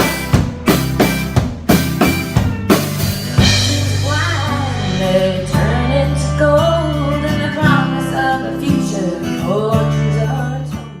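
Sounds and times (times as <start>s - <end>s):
sustained bass notes: 0.0s - 10.9s
band music led by guitar: 0.0s - 11.0s.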